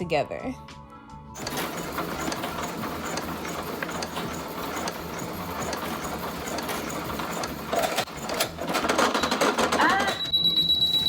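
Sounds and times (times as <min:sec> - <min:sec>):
electric sewing machine stitching: 0:01.4 - 0:11.0.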